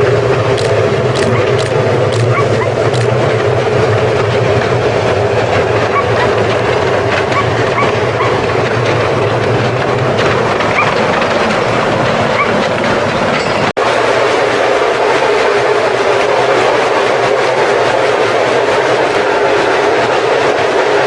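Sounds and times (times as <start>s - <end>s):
steam locomotive rushing noise: 0.0s - 21.0s.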